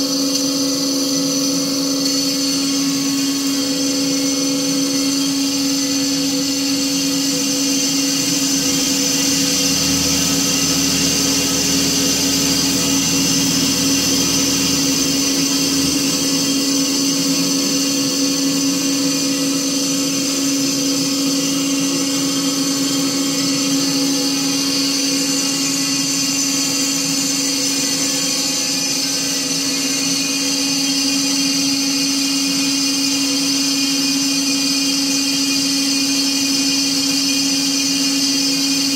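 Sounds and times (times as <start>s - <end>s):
band saw cutting metal: 0.0s - 38.9s.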